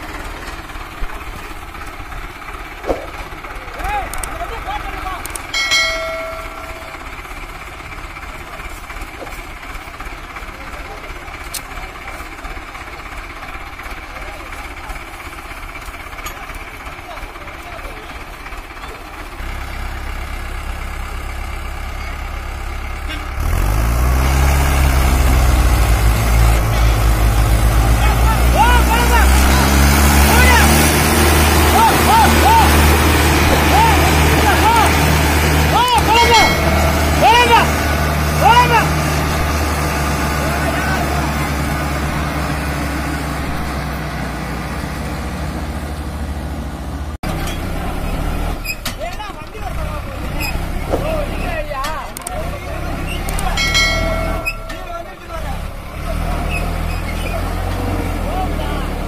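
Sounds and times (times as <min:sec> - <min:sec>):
tractor diesel engine straining: 0:00.0 - 0:59.0.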